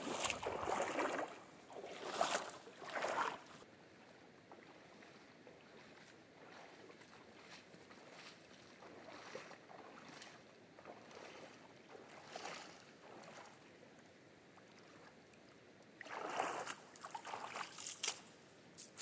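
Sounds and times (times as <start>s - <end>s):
footsteps wading through water: 0.0s - 19.0s.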